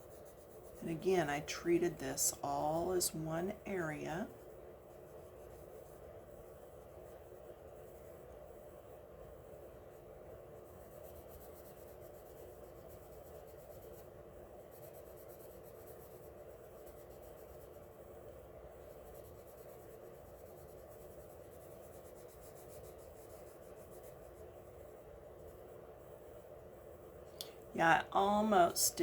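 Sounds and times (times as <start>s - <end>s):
pencil scratching on paper: 0.0s - 26.9s.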